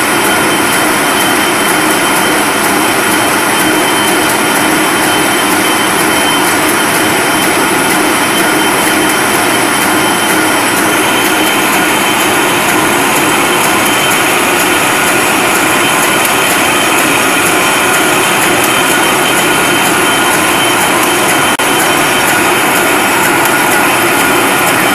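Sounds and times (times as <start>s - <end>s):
paper sheeter machine din: 0.0s - 24.9s.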